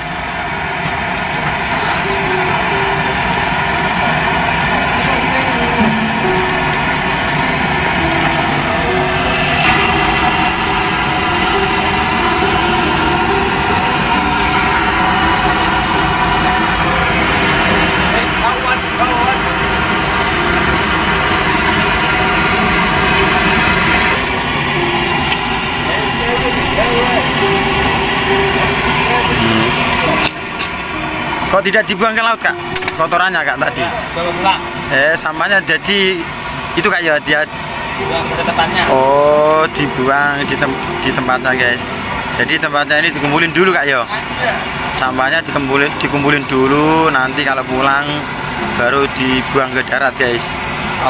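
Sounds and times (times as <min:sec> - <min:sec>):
boat engine chugging: 0:00.0 - 0:51.0.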